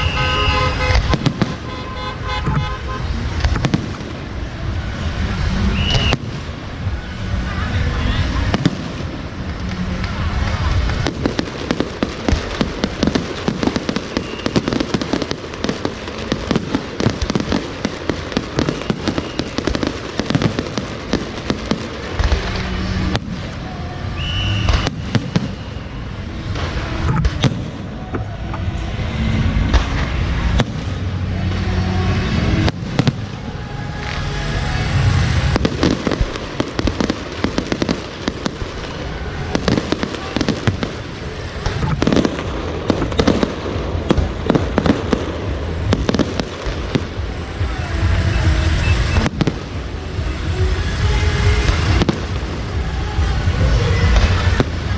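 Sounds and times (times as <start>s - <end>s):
fireworks and firecrackers crackling: 0.0s - 54.9s
loud fireworks reports: 0.0s - 54.9s.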